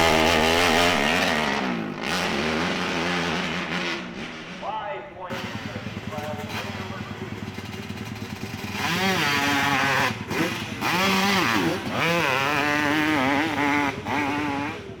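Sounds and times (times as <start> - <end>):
motorcycle engine revving hard: 0.0 - 4.6, 5.3 - 15.0.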